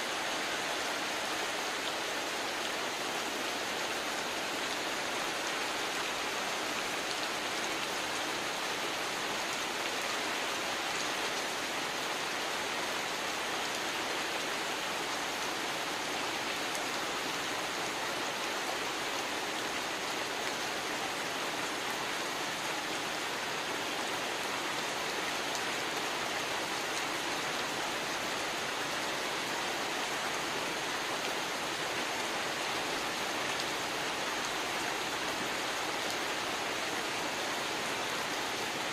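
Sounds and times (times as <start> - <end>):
heavy rain on water: 0.0 - 38.9.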